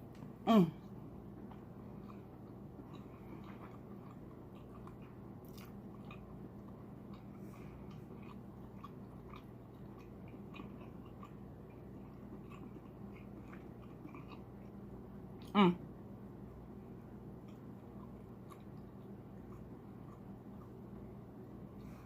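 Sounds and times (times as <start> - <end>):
person chewing: 0.1 - 15.5, 17.1 - 21.2.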